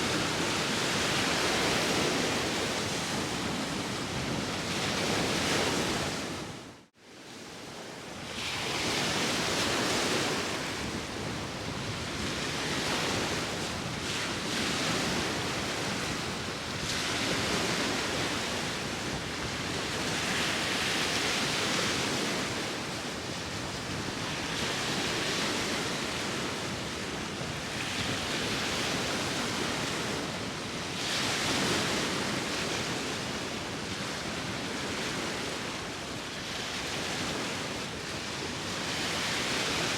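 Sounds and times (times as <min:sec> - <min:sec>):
sea waves washing on shore: 0:00.0 - 0:39.9
wind: 0:00.0 - 0:39.9.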